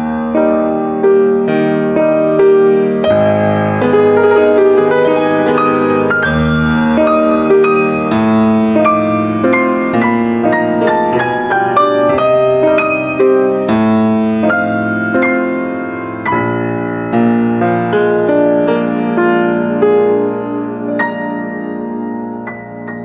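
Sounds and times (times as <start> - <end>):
solo piano melody: 0.0 - 23.0.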